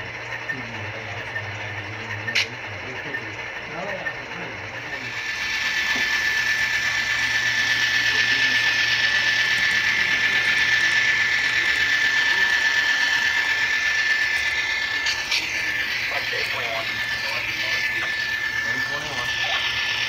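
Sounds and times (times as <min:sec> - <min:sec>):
model locomotive motor whine: 0:00.0 - 0:20.0.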